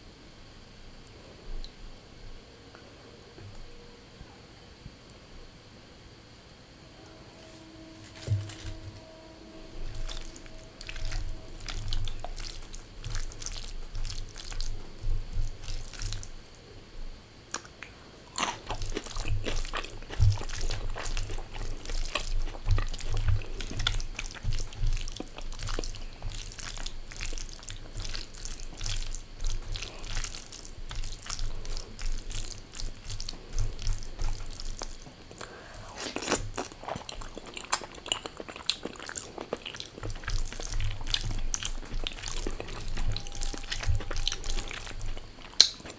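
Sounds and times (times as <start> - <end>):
low electrical hum: 0.0 - 45.9
wet chewing and crunching: 8.0 - 45.9.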